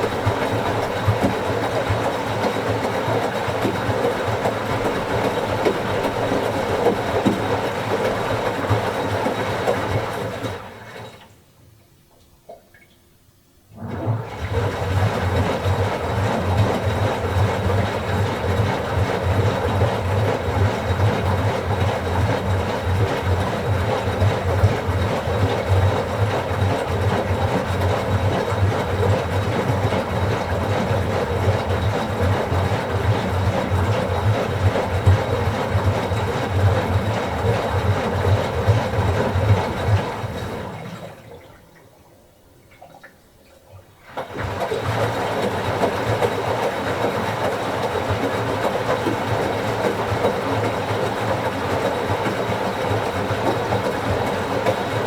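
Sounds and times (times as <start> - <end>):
washing machine drum sloshing: 0.0 - 11.4, 13.7 - 55.0.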